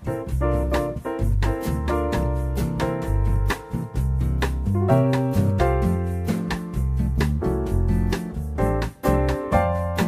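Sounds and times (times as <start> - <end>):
music with melody and beat: 0.0 - 10.0.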